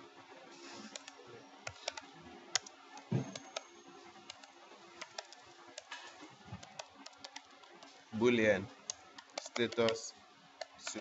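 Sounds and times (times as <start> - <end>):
faint steady hum: 0.0 - 11.0
keyboard typing: 0.8 - 8.0, 8.8 - 11.0.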